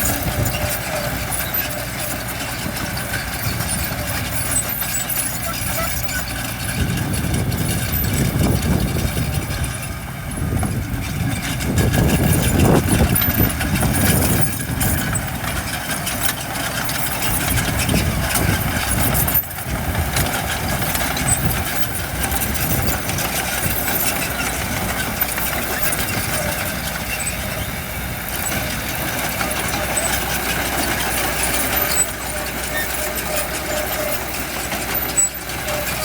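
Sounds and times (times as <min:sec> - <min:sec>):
heavy machinery diesel engine running: 0:00.0 - 0:36.0.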